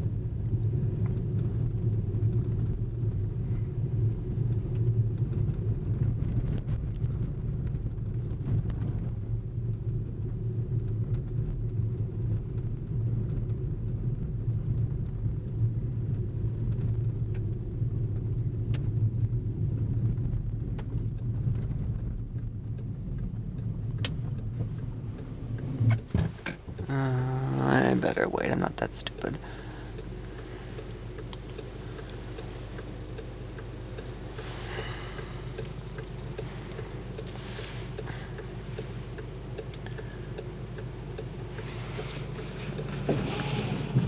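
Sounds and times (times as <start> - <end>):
car engine rumble: 0.0 - 44.0
tyres on snowy road: 0.0 - 44.0
faint clicks: 0.6 - 28.1, 28.8 - 43.1.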